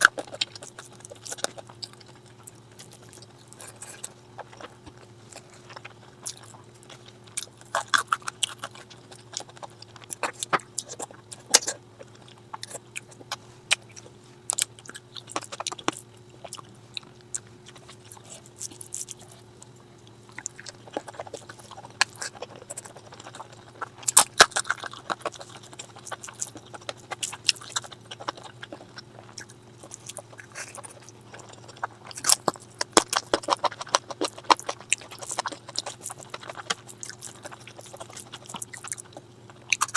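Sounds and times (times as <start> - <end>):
low electrical hum: 0.0 - 39.9
person chewing food: 0.0 - 39.9.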